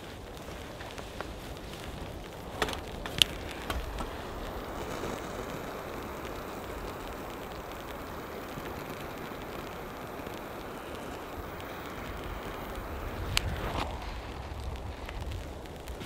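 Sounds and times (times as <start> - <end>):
lighter flame hissing: 0.0 - 16.0.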